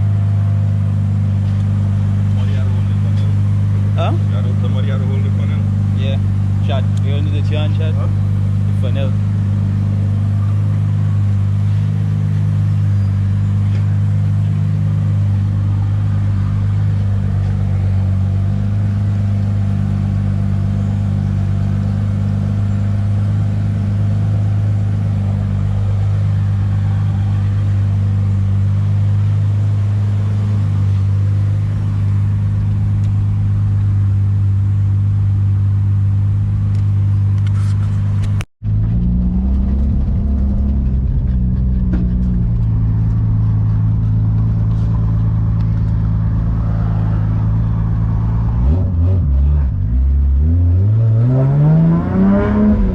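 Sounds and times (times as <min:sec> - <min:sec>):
car engine droning: 0:00.0 - 0:52.9.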